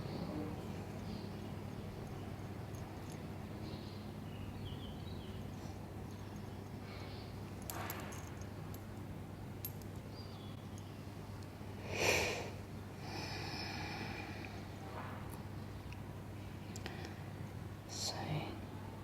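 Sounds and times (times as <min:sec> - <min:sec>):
faint birdsong: 0:00.0 - 0:19.0
steady low hum: 0:00.0 - 0:19.0.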